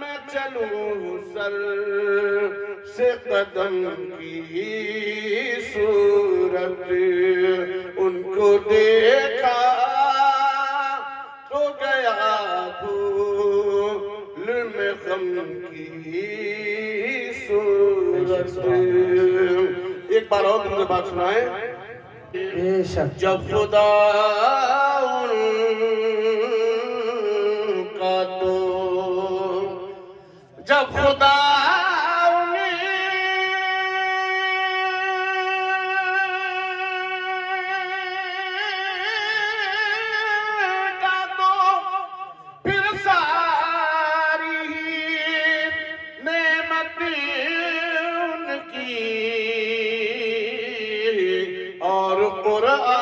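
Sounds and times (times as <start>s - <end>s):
man singing unaccompanied: 0.0s - 53.0s.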